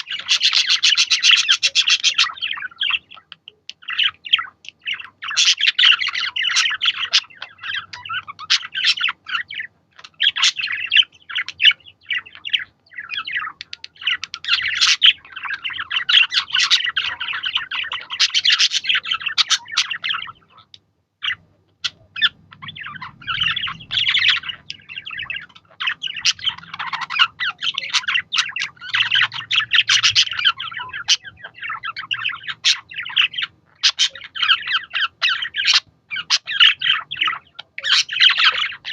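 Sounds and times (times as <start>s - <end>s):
budgies chattering and warbling: 0.0s - 38.9s.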